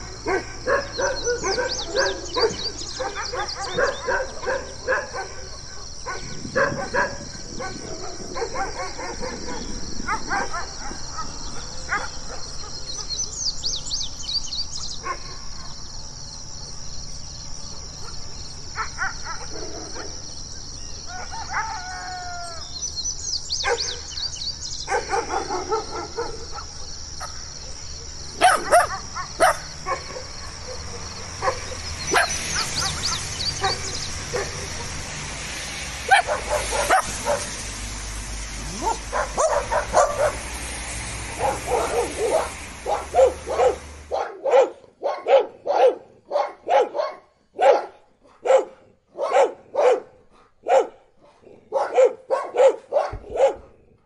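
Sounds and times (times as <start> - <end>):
dogs barking: 0.0 - 13.3, 15.0 - 15.8, 17.9 - 20.3, 23.6 - 37.7, 38.5 - 54.0.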